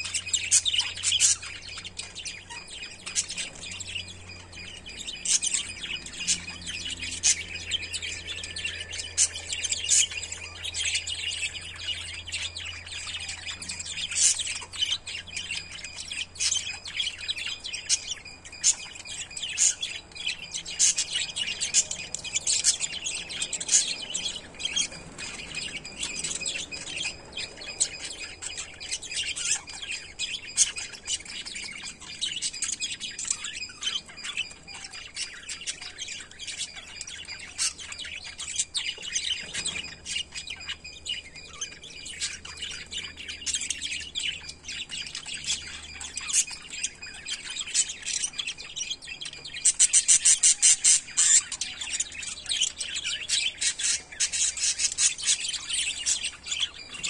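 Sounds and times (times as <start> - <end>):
parrots chirping and chattering: 0.0 - 57.0.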